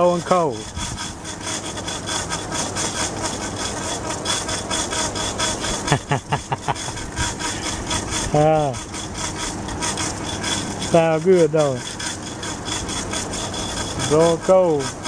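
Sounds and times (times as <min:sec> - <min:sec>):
air conditioner humming: 0:00.0 - 0:15.0
rhythmic rasping: 0:00.0 - 0:15.0.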